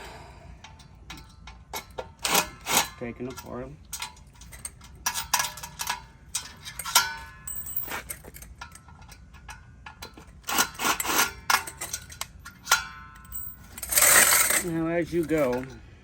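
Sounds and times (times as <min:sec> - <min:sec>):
metal fan parts clinking: 0:00.0 - 0:16.0.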